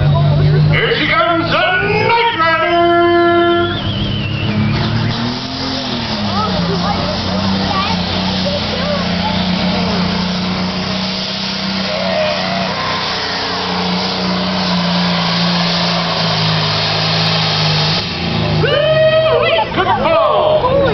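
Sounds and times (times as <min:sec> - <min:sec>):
diesel tractor engine under load: 0:00.0 - 0:20.9.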